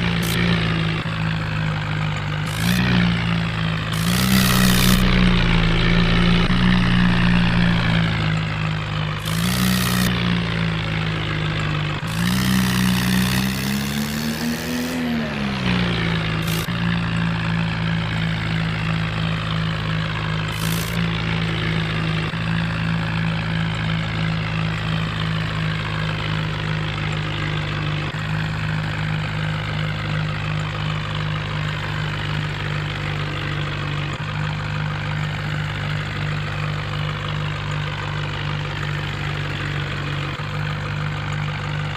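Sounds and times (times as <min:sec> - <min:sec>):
tractor engine idling: 0:00.0 - 0:13.4, 0:16.0 - 0:41.9.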